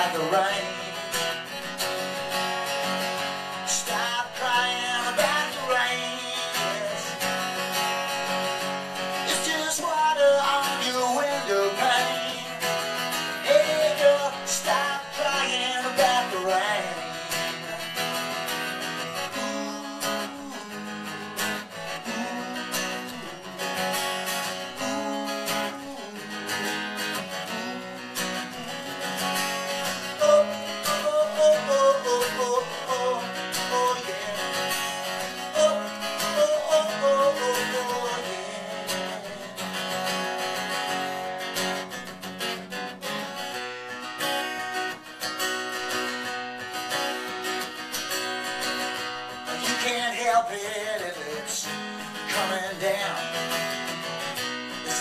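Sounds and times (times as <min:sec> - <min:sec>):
guitar melody with bending notes: 0:00.0 - 0:55.0
strummed acoustic guitar: 0:00.0 - 0:55.0.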